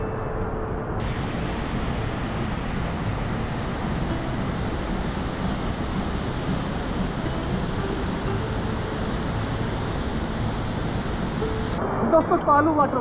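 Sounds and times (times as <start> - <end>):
waterfall crashing onto rocks: 1.0 - 11.8.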